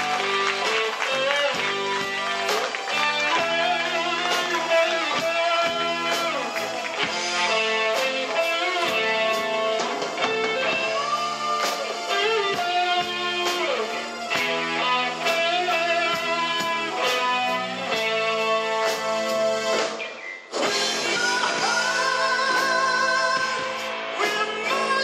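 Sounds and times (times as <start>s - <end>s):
electric guitar melody: 0.0s - 25.0s
live rock band playing: 0.0s - 25.0s.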